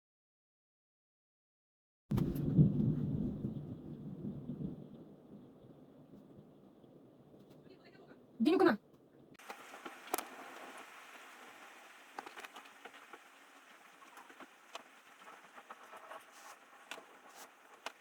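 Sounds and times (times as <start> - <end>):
rain pattering: 2.1 - 18.0.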